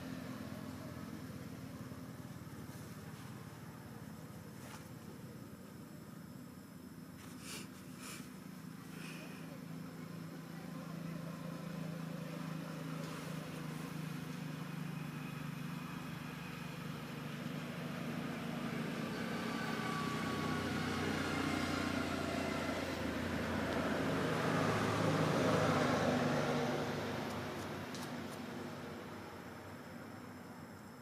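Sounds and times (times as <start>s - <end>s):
vehicle engine droning past: 0.0s - 5.6s, 8.4s - 30.9s.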